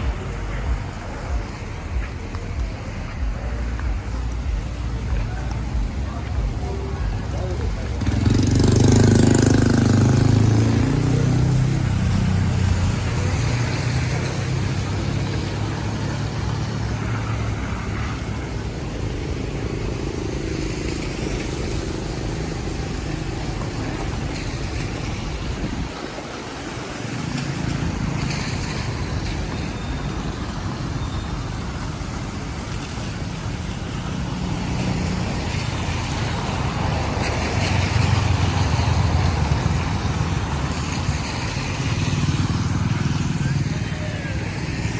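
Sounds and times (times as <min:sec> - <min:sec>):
steady traffic noise: 0:00.0 - 0:44.9
vehicle engines passing: 0:00.0 - 0:44.9.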